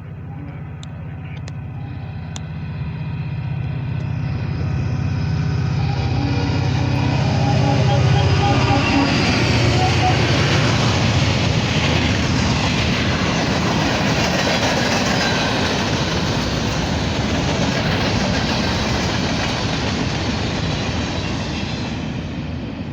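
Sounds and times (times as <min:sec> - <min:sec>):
freight train cars rolling past: 0:00.0 - 0:22.9.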